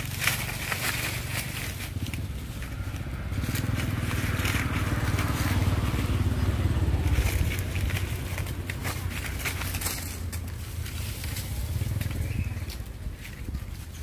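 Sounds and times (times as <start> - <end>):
dry leaves crunching and rustling: 0.0 - 14.0
low engine rumble: 0.0 - 14.0.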